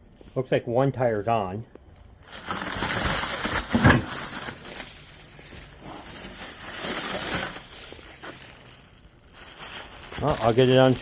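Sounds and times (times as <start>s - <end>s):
plastic shrink wrap crinkling: 2.0s - 11.0s.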